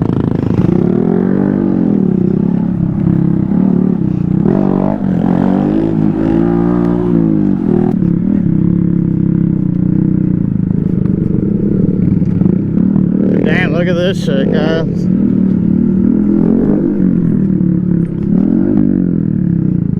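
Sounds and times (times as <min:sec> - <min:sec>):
off-road vehicle engine running: 0:00.0 - 0:19.9.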